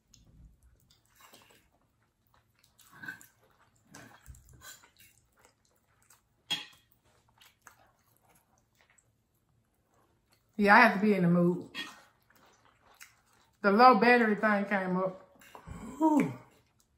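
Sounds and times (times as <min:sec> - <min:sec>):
chewing and wet mouth noises: 0:00.0 - 0:10.6, 0:11.6 - 0:13.7, 0:15.1 - 0:16.9.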